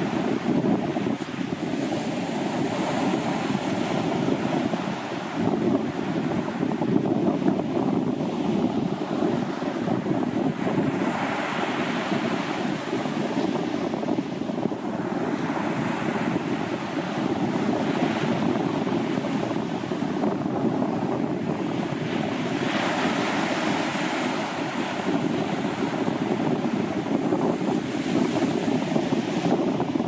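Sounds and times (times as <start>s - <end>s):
waves breaking on beach: 0.0s - 30.0s.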